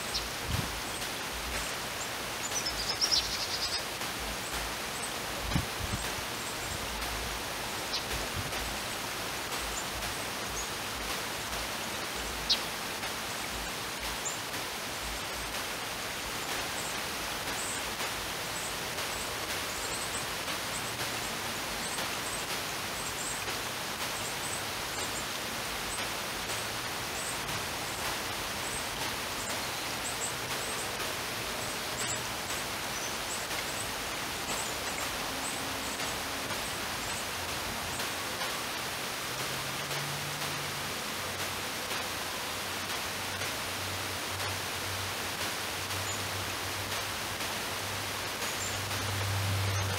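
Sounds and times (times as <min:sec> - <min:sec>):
outdoor background hiss: 0:00.0 - 0:49.9.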